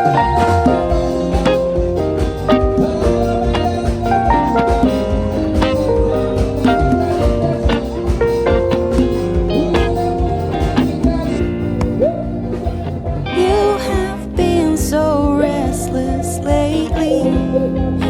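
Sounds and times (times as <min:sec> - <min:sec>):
instrumental music with guitar: 0:00.0 - 0:18.0.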